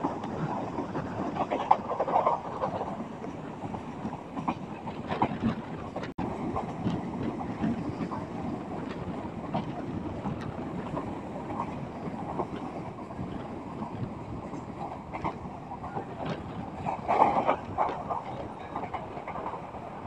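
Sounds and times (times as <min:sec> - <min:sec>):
train wheel clicks and clacks: 0:00.0 - 0:20.0
train wheels rumbling on rail: 0:00.0 - 0:20.0
wind on microphone: 0:00.0 - 0:20.0.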